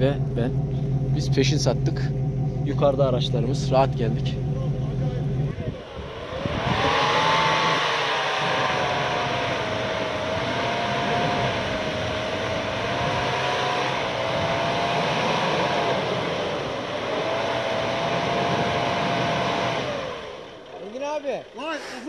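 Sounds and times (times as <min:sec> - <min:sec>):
off-road vehicle mechanical whine: 0:00.0 - 0:22.0.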